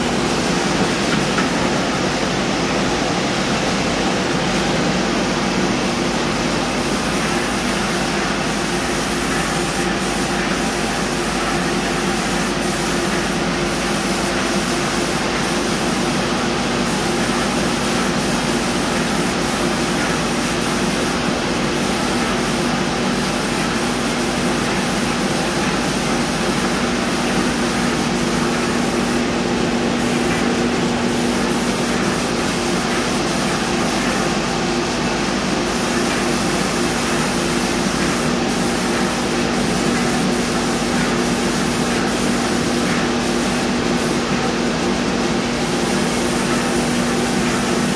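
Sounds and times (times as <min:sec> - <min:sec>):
paint sprayer hissing: 0:00.0 - 0:47.9.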